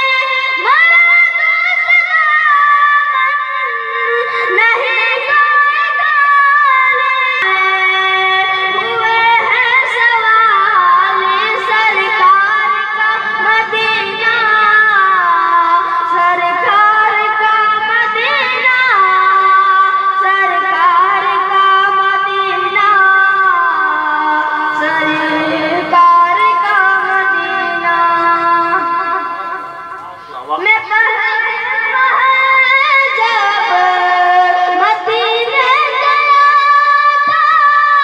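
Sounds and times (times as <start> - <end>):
high voice singing over loudspeaker: 0.0 - 38.0.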